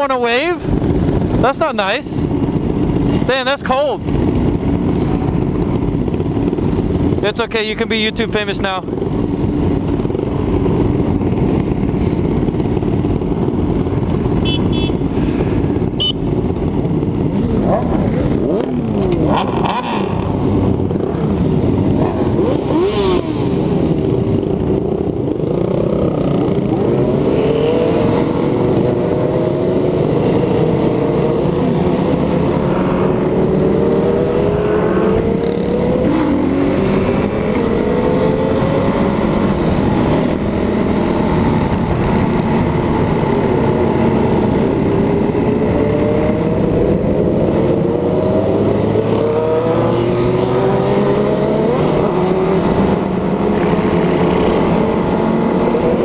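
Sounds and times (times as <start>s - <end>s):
wind and road noise: 0.0s - 56.0s
motorcycle engine revving: 8.9s - 56.0s.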